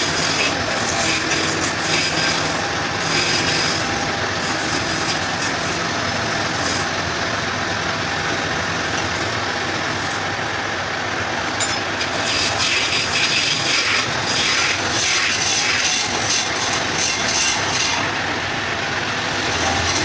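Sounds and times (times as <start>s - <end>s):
wood lathe tool scraping: 0.0s - 20.0s.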